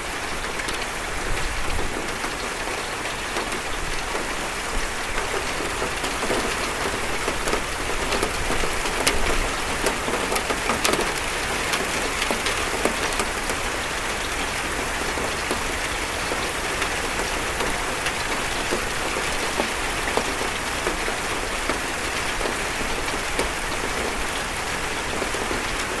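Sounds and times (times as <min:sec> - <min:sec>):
raindrops ticking on metal: 0:00.5 - 0:26.0.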